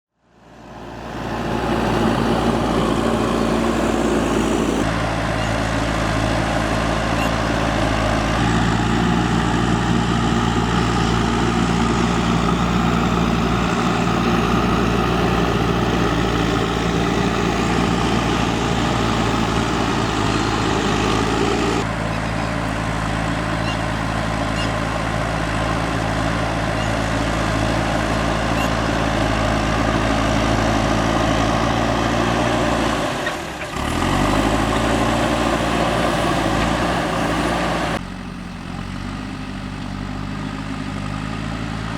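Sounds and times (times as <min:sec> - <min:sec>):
backhoe diesel engine running: 0:00.2 - 0:41.9.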